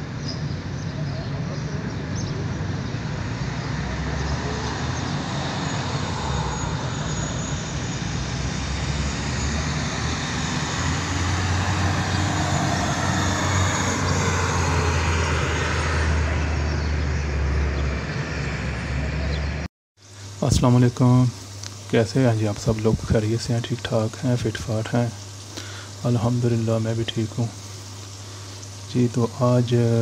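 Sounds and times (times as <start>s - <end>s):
street traffic: 0.0s - 30.0s
vehicle engine humming: 0.0s - 30.0s.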